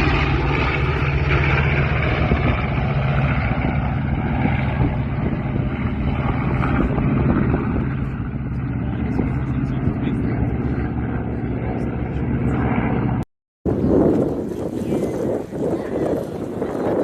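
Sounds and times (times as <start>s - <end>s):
aircraft engine droning: 0.0s - 17.0s.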